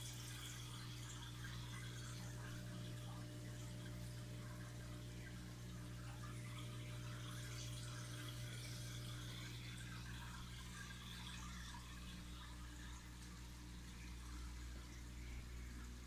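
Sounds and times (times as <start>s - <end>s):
aquarium pump humming: 0.0s - 16.0s
water bubbling and fizzing: 0.0s - 16.0s.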